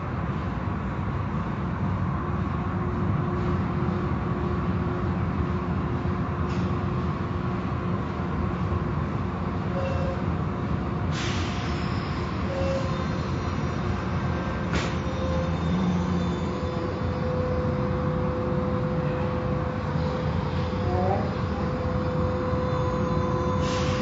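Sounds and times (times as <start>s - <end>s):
car wash machinery rumble: 0.0s - 24.0s.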